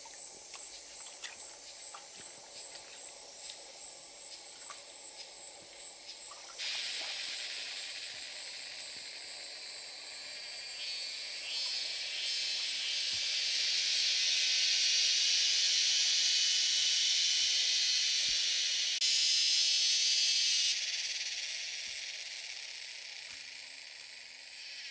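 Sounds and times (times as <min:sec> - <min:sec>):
fast-pulsing insect chirp: 0:00.0 - 0:24.9
high-pitched cicada drone: 0:00.0 - 0:24.9.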